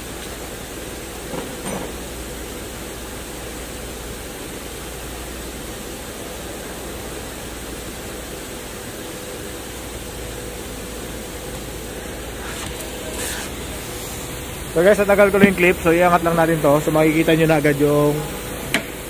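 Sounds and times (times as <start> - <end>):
rushing workshop background noise: 0.0 - 4.0, 6.1 - 19.0
faint steady hum: 0.0 - 19.0.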